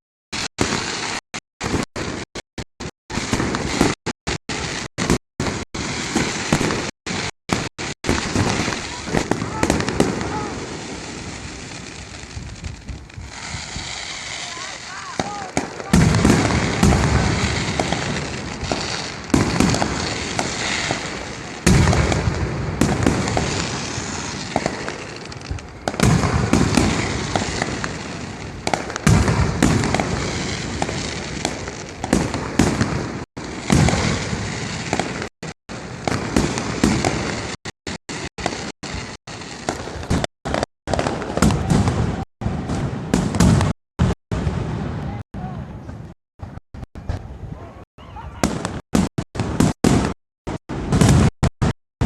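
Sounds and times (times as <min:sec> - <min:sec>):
fireworks bangs with rumble: 0:00.4 - 0:47.5, 0:48.4 - 0:51.8.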